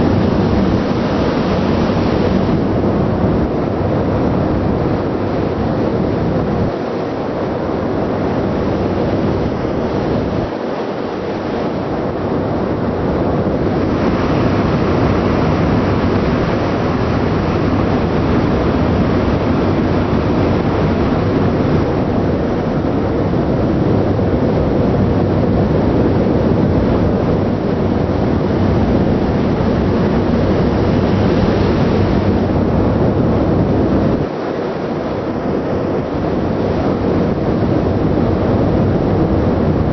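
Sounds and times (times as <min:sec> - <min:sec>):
ship engine rumble: 0:00.0 - 0:39.9
wind over microphone: 0:00.0 - 0:39.9.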